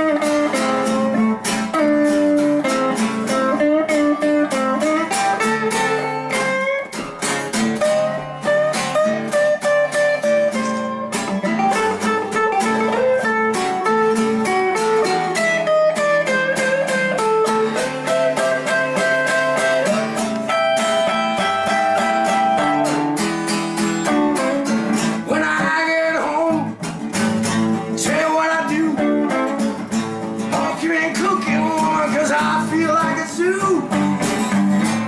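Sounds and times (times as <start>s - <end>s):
single-note guitar melody: 0.0s - 35.0s
strummed guitar chords: 0.0s - 35.0s.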